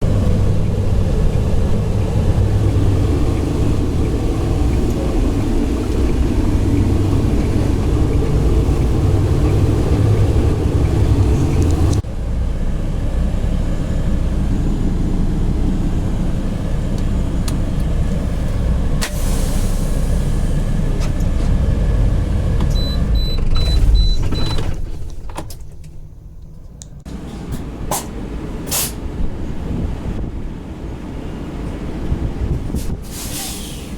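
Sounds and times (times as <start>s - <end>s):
truck engine and road rumble: 0.0s - 33.9s.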